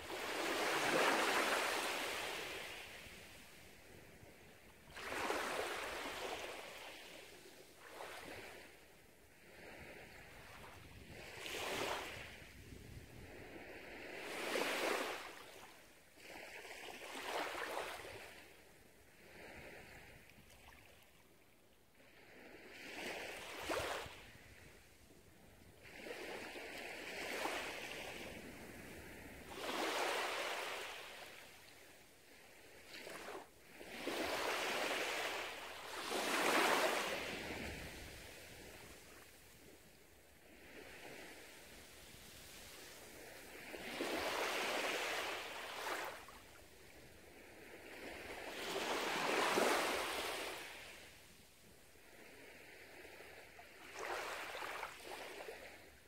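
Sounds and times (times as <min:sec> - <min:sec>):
small waves lapping on sand: 0:00.0 - 0:56.0.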